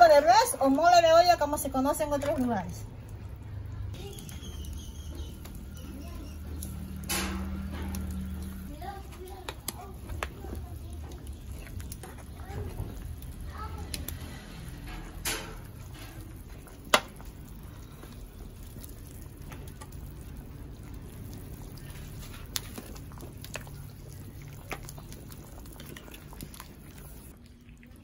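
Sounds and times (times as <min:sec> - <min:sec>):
stew sloshing and splashing: 0:00.2 - 0:28.0.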